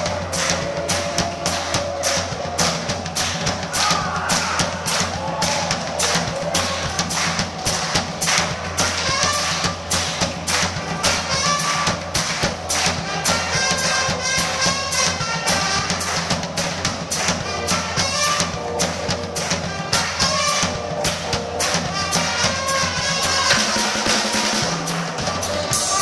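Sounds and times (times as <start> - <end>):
drum kit fast beat: 0.0 - 26.0
live band music: 0.0 - 26.0.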